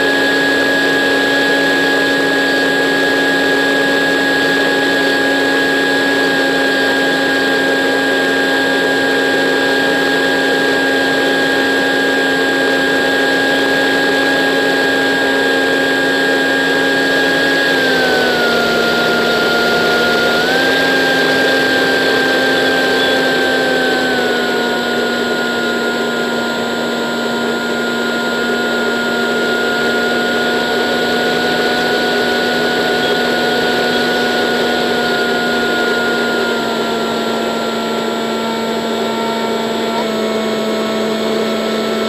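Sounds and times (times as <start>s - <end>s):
electric motor propeller whine: 0.0s - 42.0s.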